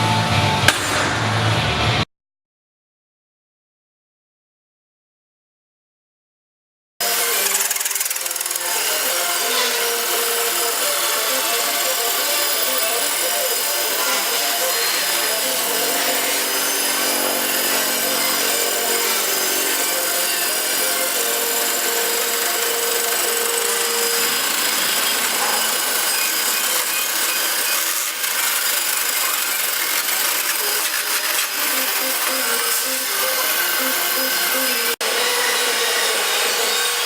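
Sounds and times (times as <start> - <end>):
grinder hissing on metal bar: 7.0 - 37.0.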